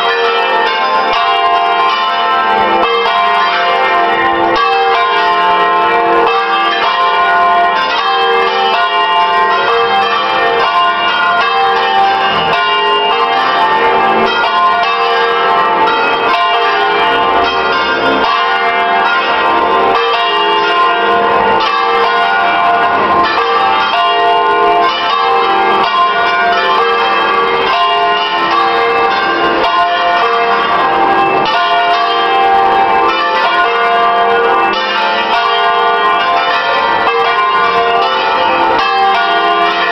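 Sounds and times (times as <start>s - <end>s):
church bells ringing in full peal: 0.0s - 39.9s.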